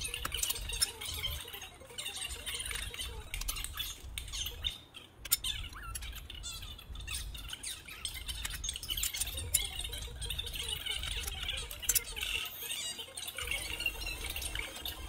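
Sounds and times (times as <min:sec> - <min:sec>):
gloves squeaking on metal plates: 0:00.0 - 0:15.0.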